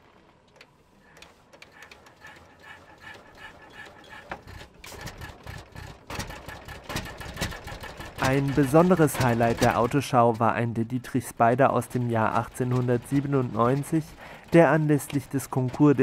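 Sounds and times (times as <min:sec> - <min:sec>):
old car engine clattering: 0:01.6 - 0:16.0.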